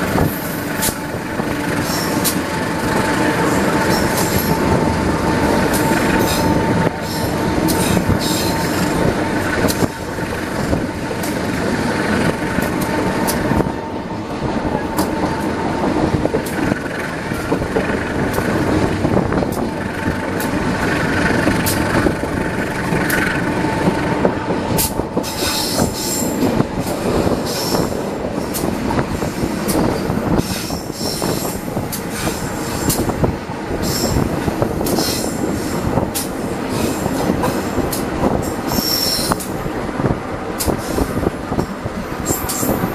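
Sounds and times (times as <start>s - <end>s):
train rolling on rails: 0.0s - 42.9s.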